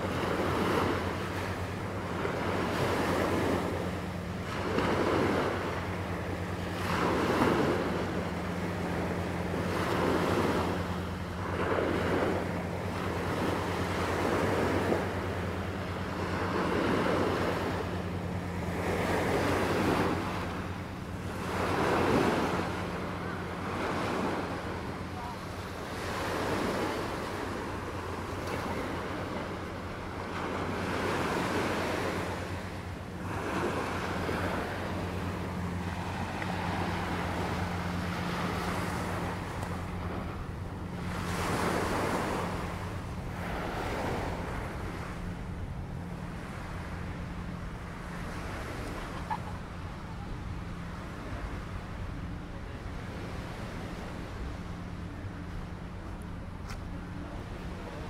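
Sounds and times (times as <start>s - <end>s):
small waves breaking on beach: 0.0s - 58.0s
steady low hum: 0.0s - 58.0s.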